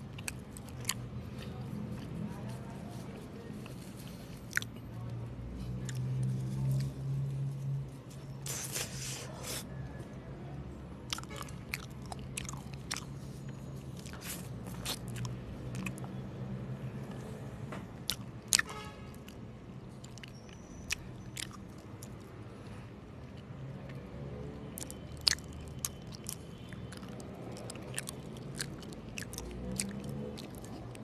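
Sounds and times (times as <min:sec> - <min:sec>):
biting and chewing: 0:00.0 - 0:07.0, 0:11.0 - 0:16.3, 0:17.8 - 0:31.0.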